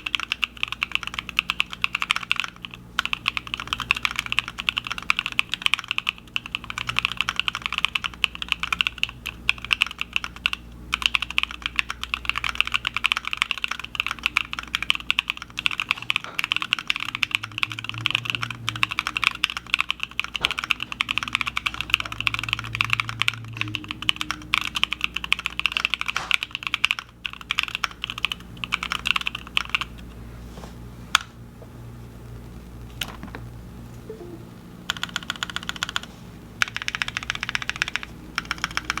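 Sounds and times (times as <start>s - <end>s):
mechanical keyboard typing: 0.0s - 30.0s, 34.2s - 39.0s.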